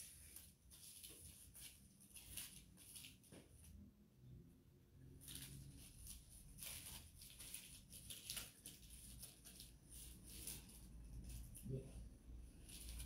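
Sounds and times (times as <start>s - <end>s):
plastic bag rustling on paper: 0.0s - 3.6s, 5.2s - 11.8s, 12.4s - 13.0s.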